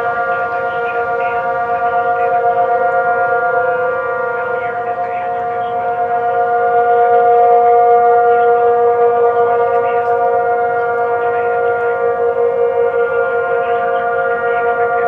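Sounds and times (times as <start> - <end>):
tornado warning sirens: 0.0 - 15.0.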